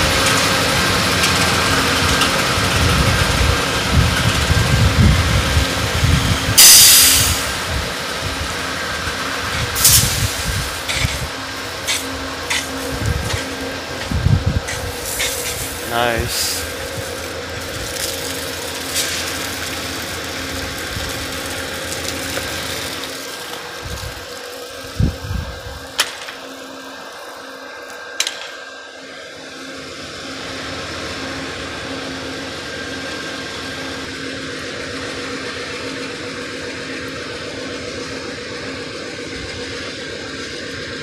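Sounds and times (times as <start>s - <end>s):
diesel locomotive idling: 0.0s - 41.0s.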